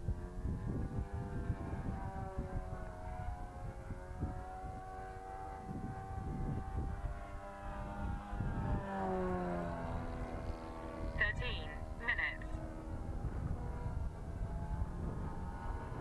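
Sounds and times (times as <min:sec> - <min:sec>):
model airplane engine running: 0:00.0 - 0:16.0
wind rumble on microphone: 0:00.0 - 0:16.0.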